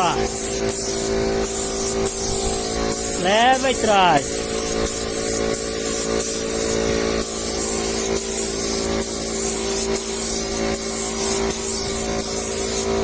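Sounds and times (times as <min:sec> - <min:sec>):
steady hum: 0:00.0 - 0:12.2
spray gun hissing: 0:00.0 - 0:13.0.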